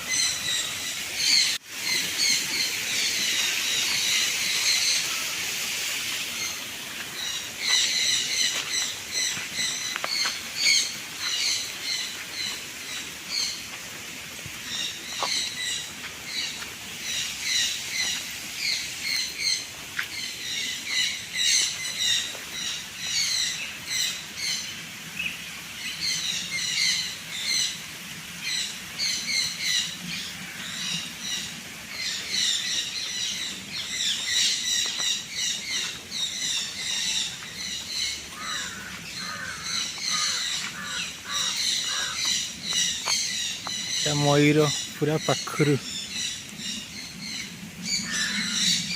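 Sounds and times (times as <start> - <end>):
birds squawking and chirping: 0.0 - 13.8, 14.6 - 48.9.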